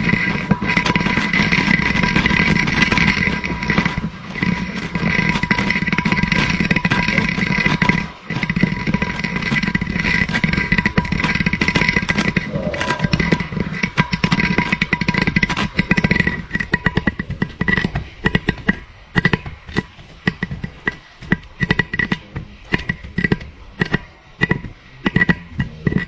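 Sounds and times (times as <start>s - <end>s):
camera rattling inside a pipe: 0.0s - 26.0s.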